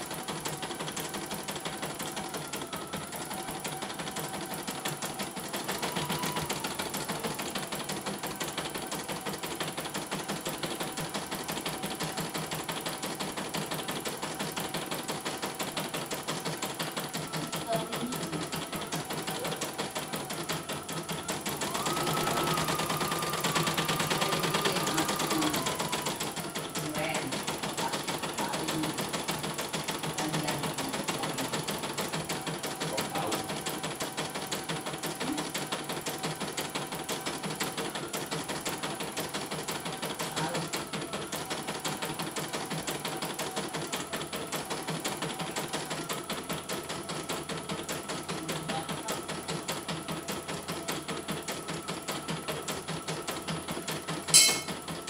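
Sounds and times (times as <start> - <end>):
embroidery machine stitching: 0.0 - 55.0.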